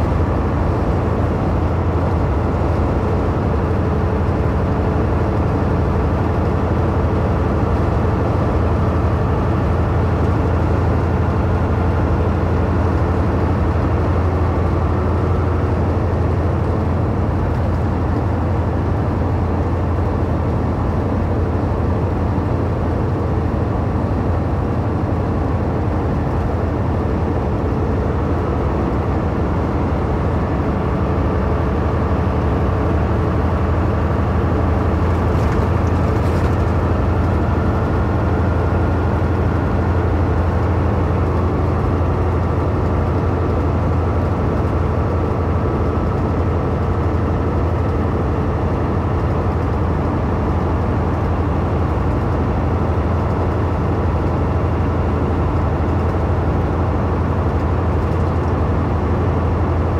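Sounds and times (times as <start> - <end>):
truck engine drone: 0.0 - 59.9
tyres on the road: 0.0 - 59.9.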